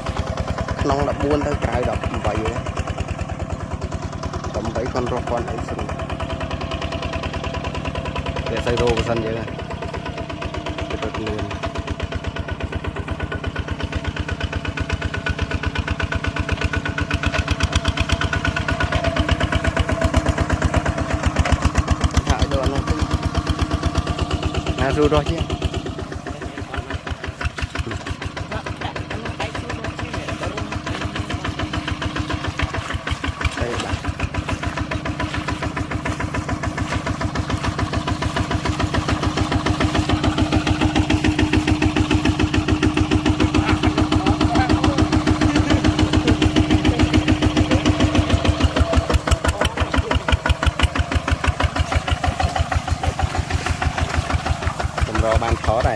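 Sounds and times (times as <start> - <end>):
tractor engine chugging: 0.0 - 55.9.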